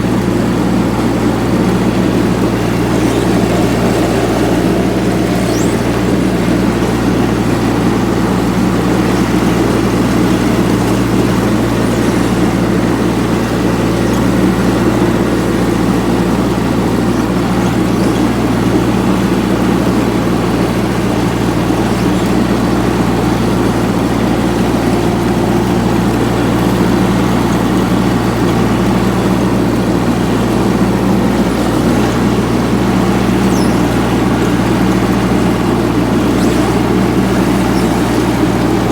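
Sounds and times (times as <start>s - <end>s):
ride-on mower engine running: 0.0s - 38.9s.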